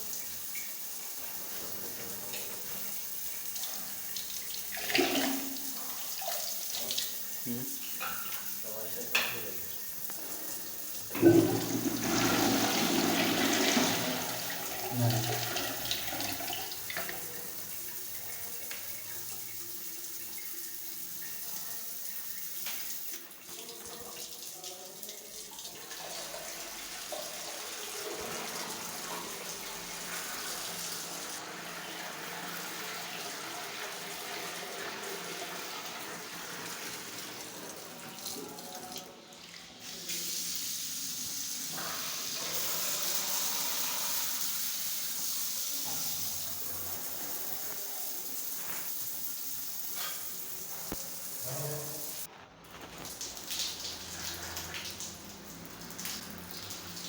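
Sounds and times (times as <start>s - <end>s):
water running from a tap: 0.0s - 57.0s.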